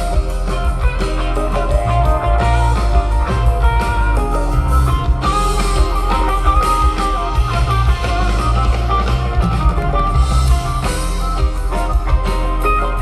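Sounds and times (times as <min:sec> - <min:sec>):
bass guitar: 0:00.0 - 0:13.0
drum kit: 0:00.0 - 0:13.0
electric guitar leads: 0:00.0 - 0:13.0.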